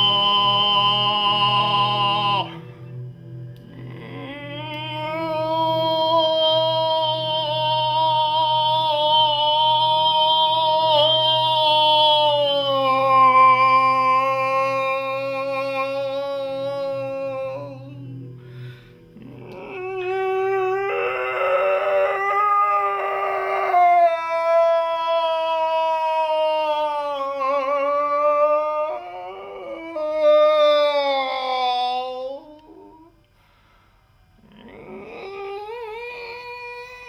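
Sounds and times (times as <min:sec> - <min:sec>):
person making howl-like tones: 0:00.0 - 0:33.2, 0:34.4 - 0:37.0.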